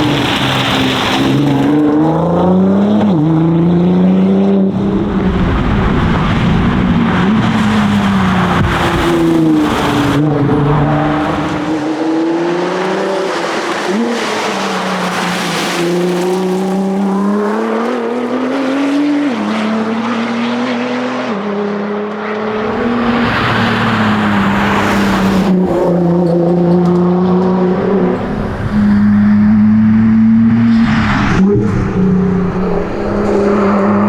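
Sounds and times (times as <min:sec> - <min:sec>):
car engine revving through gears: 0:00.0 - 0:34.0
tyre and road noise: 0:00.0 - 0:34.0.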